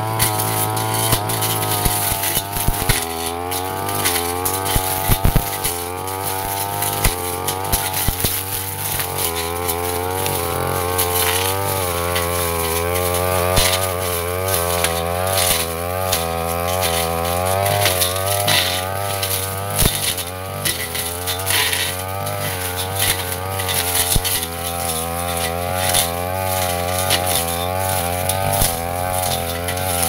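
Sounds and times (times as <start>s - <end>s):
blade knocking on stems: 0.0s - 30.0s
brush cutter engine at high revs: 0.0s - 30.0s.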